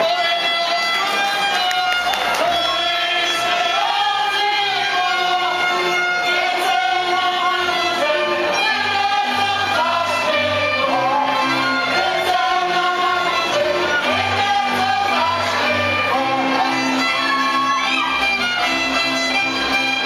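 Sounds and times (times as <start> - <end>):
instruments playing: 0.0 - 20.0
group singing folk song: 2.3 - 19.9.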